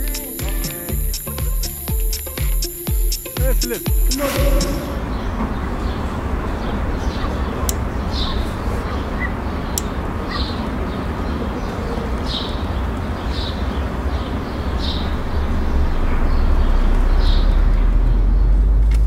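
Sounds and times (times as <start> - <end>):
low street rumble: 0.0 - 19.0.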